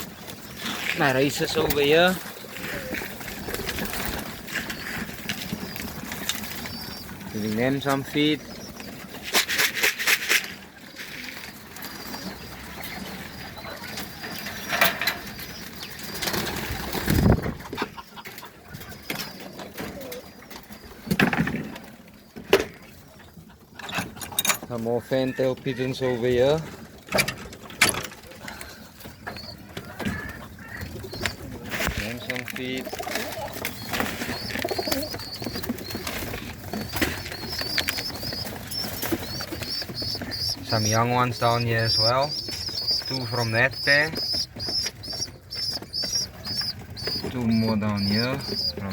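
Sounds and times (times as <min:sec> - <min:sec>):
wings flapping: 0:00.0 - 0:22.2, 0:26.5 - 0:48.9
pigeons cooing: 0:00.0 - 0:23.8, 0:28.2 - 0:48.9.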